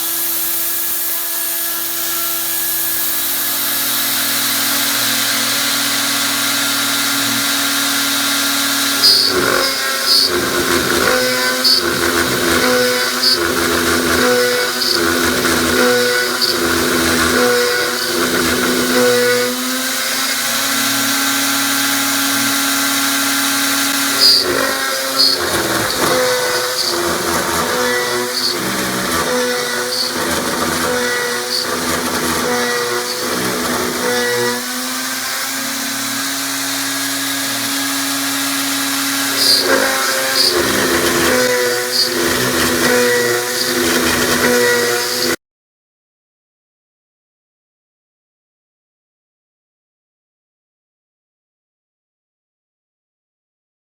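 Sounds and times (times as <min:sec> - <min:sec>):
bit grinding metal: 0:00.0 - 0:45.4
rotary tool whine: 0:00.0 - 0:45.4.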